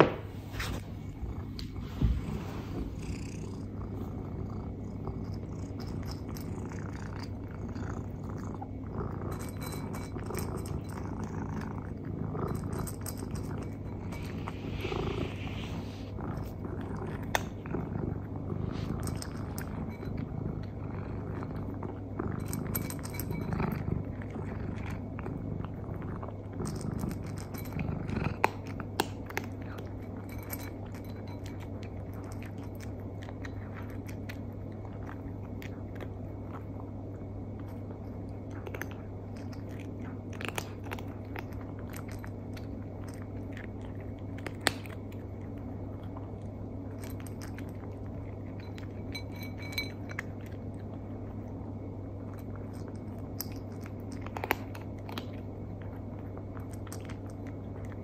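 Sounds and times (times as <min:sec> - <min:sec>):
cat eating with crunches: 0:00.0 - 0:58.0
steady low hum: 0:00.0 - 0:58.0.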